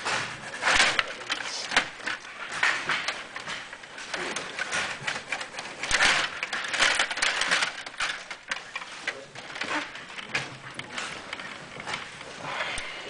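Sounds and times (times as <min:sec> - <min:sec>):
table hockey game clattering: 0:00.0 - 0:13.0.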